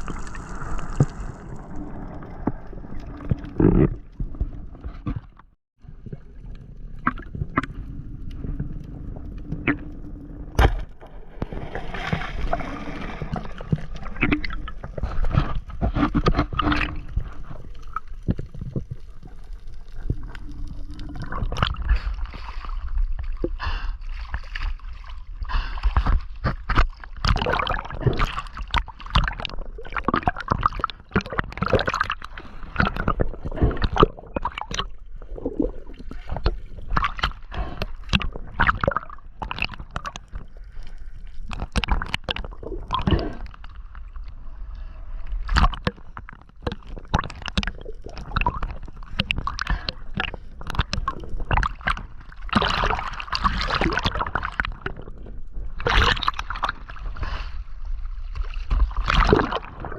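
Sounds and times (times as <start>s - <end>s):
water sloshing and gurgling: 0.0s - 59.9s.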